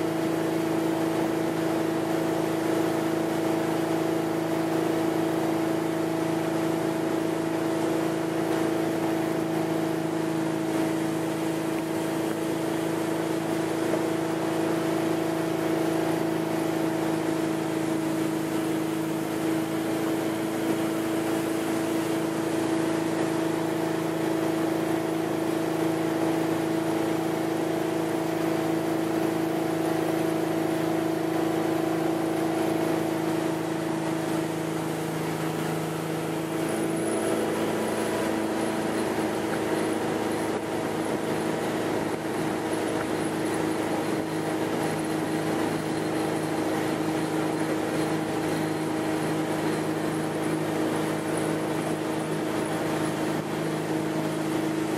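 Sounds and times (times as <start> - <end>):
boat engine humming: 0.0 - 54.9
water rushing from wake: 0.0 - 54.9.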